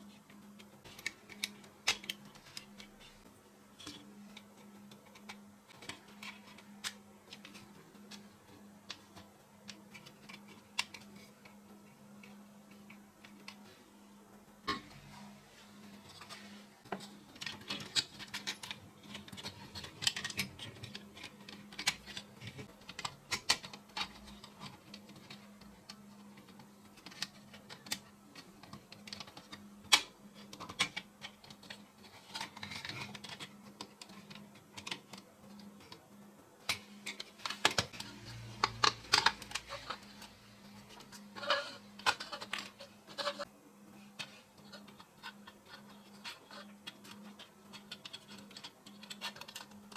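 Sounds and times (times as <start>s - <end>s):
faint steady hum: 0.0s - 49.9s
hard parts clicking and tapping: 0.3s - 13.7s, 15.9s - 43.5s, 44.1s - 49.9s.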